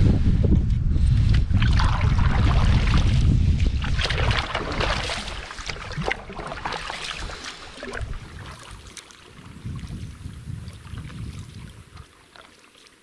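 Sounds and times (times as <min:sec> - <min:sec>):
wind rumble on microphone: 0:00.0 - 0:12.2
paddle strokes splashing: 0:01.5 - 0:13.0
water dripping: 0:01.6 - 0:13.0.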